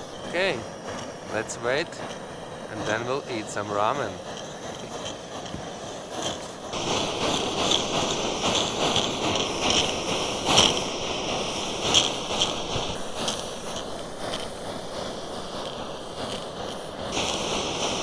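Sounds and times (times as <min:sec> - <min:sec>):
gas stove roaring: 0:00.0 - 0:18.0.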